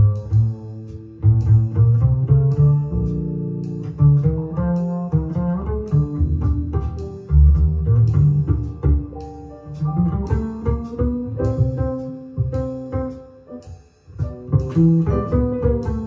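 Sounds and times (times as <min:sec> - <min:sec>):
jazz through speakers: 0:00.0 - 0:16.0
walking bass line: 0:00.0 - 0:16.0.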